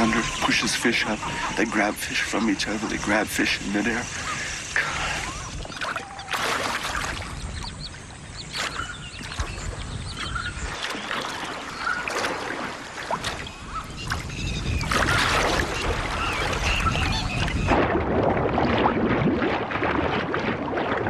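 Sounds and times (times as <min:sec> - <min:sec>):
shallow water splashing: 0:00.0 - 0:21.0.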